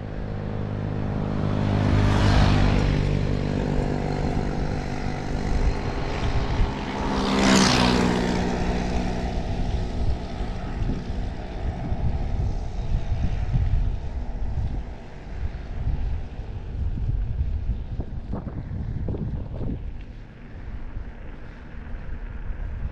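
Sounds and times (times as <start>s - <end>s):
motorcycles passing by: 0.0s - 22.9s.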